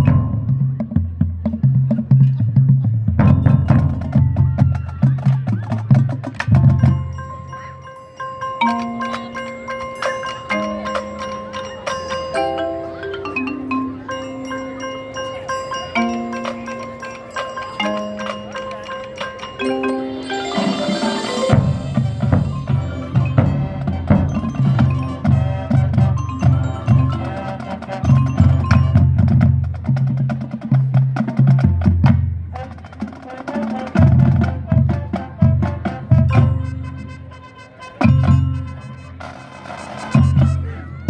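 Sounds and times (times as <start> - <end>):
mallet keyboard notes: 0.0 - 1.7, 3.1 - 32.7, 33.9 - 39.3.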